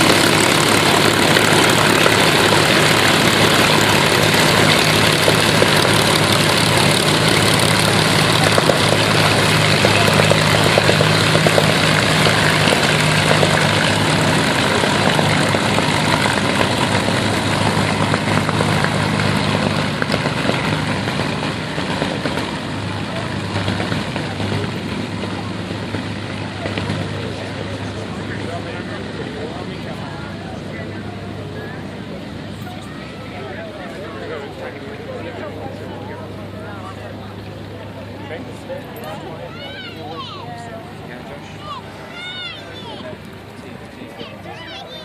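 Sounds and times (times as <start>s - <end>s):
propeller aircraft engines droning: 0.0s - 45.0s.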